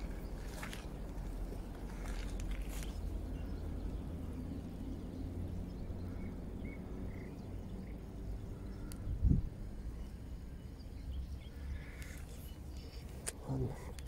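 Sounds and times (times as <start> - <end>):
steady low rumble: 0.0 - 14.0
faint bird chirps: 1.9 - 14.0.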